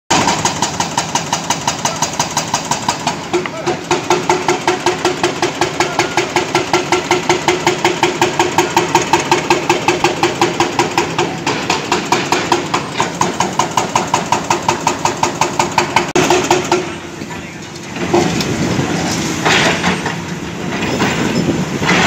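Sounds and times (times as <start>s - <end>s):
hydraulic breaker hammering concrete: 0.1s - 22.0s.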